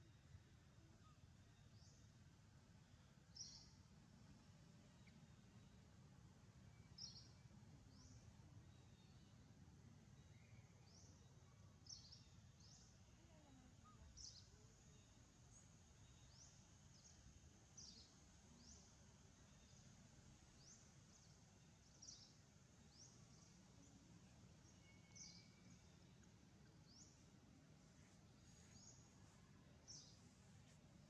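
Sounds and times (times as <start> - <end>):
faint low background rumble: 0.0 - 31.0.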